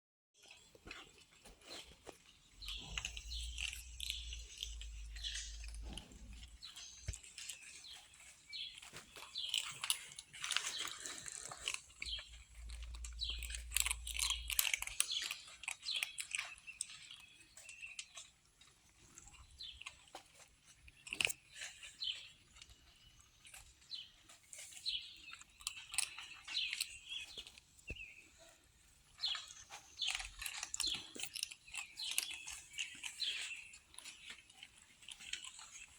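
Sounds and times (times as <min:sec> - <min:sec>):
kittens chewing and crunching: 0:00.4 - 0:35.9.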